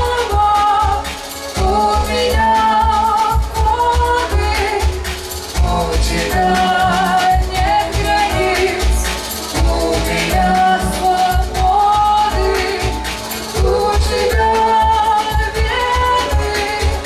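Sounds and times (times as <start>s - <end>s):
electronic synthesizer band: 0.0s - 17.0s
ticking hi-hats: 0.0s - 17.0s
woman singing into microphone: 0.0s - 17.0s.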